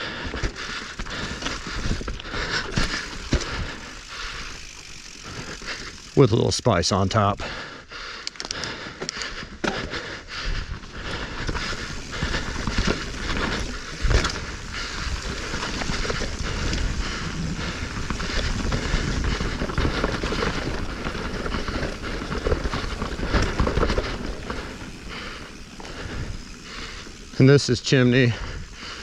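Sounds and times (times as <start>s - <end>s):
bike frame rattling: 0.0s - 6.5s, 8.3s - 29.0s
mountain bike tyres on dirt trail: 0.0s - 29.0s.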